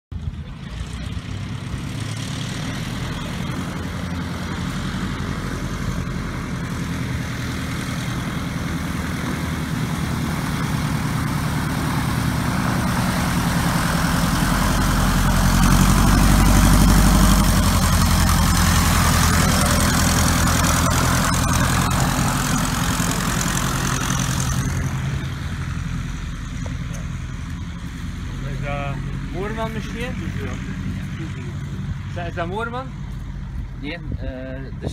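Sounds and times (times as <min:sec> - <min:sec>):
light aircraft engine and propeller: 0:00.1 - 0:34.9.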